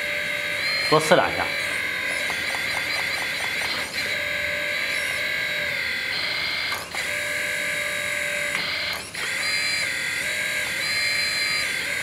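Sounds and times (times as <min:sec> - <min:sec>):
hydraulic pump whining: 0:00.0 - 0:12.0.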